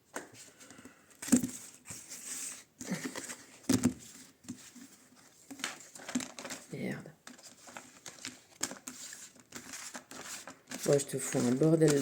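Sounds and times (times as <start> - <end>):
cards rustling: 0.1 - 12.0.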